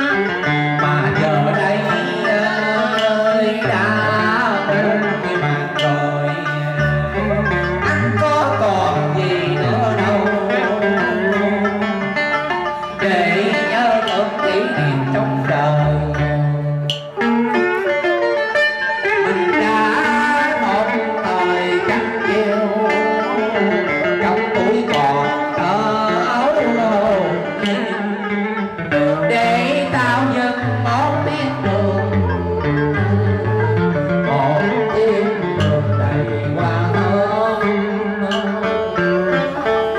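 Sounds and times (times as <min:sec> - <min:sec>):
man singing through pa: 0:00.0 - 0:17.2, 0:19.2 - 0:39.9
plucked-string accompaniment: 0:00.0 - 0:39.9.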